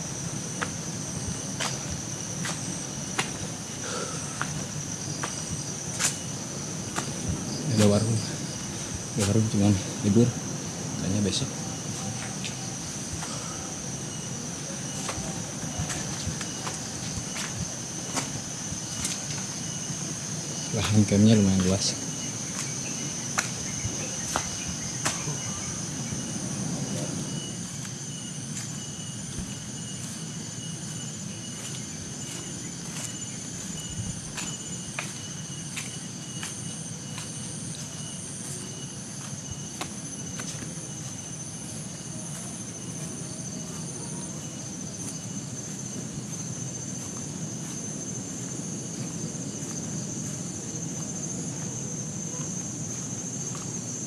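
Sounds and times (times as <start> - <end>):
insects buzzing high-pitched: 0.0 - 54.0
pulsing insect chirp: 0.0 - 54.0.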